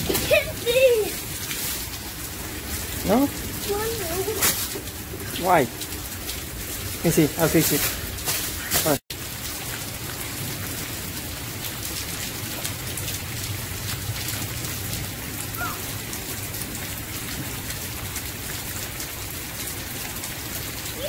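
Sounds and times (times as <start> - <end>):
rain on a wet street: 0.0 - 21.0
raindrop ticks: 0.0 - 21.0.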